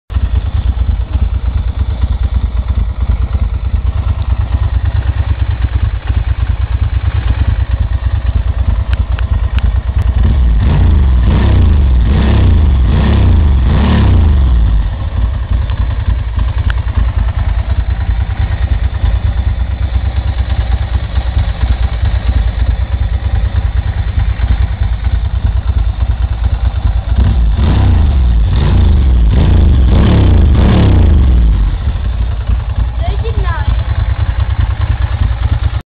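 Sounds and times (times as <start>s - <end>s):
motorcycle engine idling: 0.1s - 35.8s
motorcycle throttle blips: 0.1s - 35.8s.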